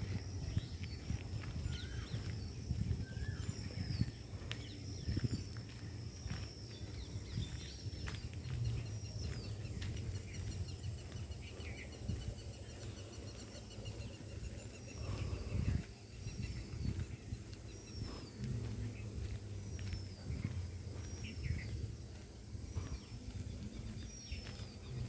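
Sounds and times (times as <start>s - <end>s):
birds chirping and singing: 0.0s - 25.0s
steady low rumble: 0.0s - 25.0s.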